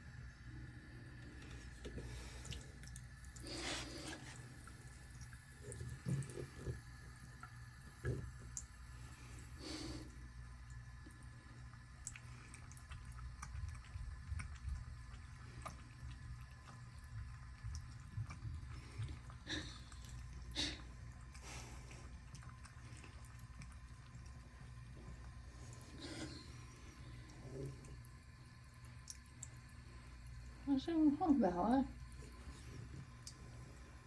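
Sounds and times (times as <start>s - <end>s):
steady low hum: 0.0s - 34.0s
trickle of running water: 0.0s - 34.0s
water drips and splashes: 0.5s - 34.0s.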